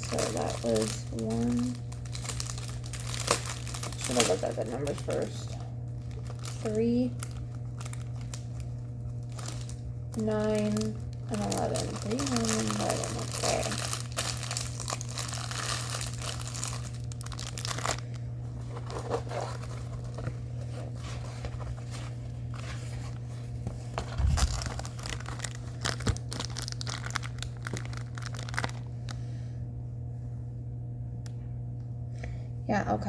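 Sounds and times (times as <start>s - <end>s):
plastic packaging crinkling: 0.0s - 29.2s
steady low hum: 0.0s - 33.0s.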